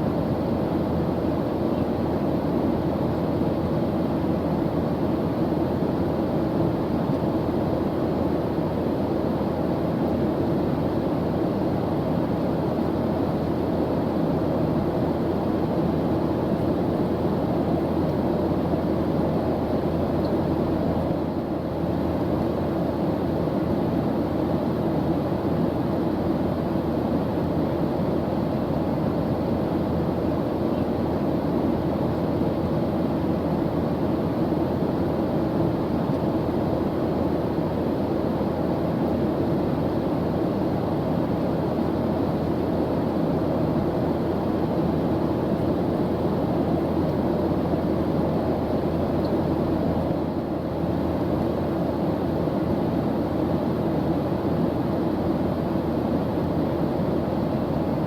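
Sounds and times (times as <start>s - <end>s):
airplane engines droning: 0.0s - 58.0s.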